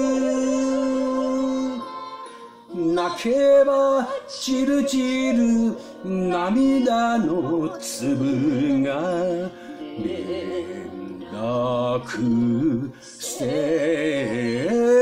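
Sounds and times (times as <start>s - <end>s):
instrumental accompaniment: 0.0s - 14.7s
person singing with vibrato: 0.0s - 15.0s.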